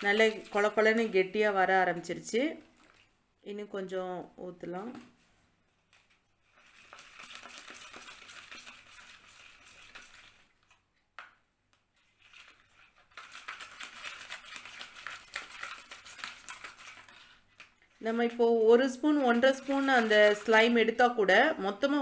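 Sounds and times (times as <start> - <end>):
slime being stirred: 0.0 - 3.1, 6.0 - 10.8, 11.9 - 22.0.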